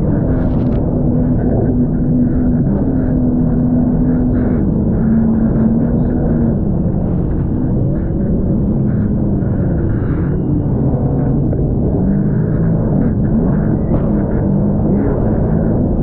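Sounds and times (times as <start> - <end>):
jet ski engine drone: 0.0 - 16.0.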